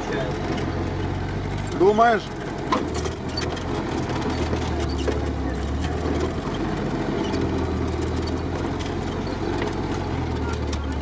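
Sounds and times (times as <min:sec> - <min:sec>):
engine drone inside cab: 0:00.0 - 0:11.0.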